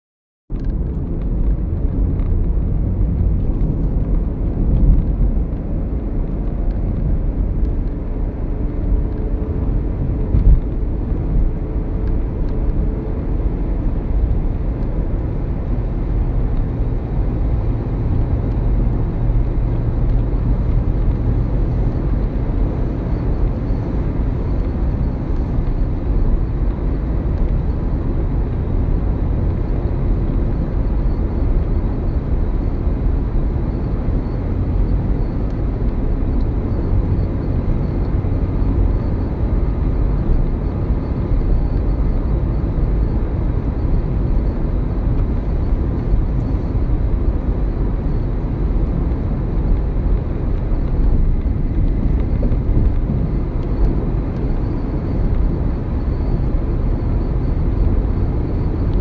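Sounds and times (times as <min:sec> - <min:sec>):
car road and engine rumble: 0:00.5 - 0:59.0.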